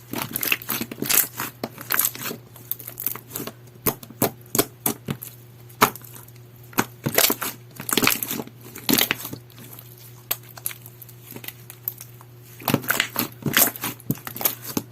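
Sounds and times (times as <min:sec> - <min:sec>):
faint steady hum: 0:00.0 - 0:14.9
slime squished by hand: 0:00.1 - 0:14.9.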